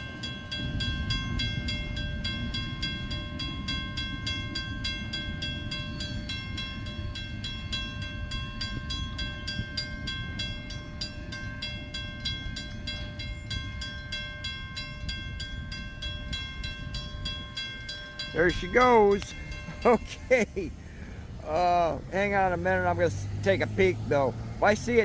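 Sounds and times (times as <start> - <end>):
railroad crossing bell ringing: 0.0 - 25.0
train cars rumbling past: 0.0 - 25.0.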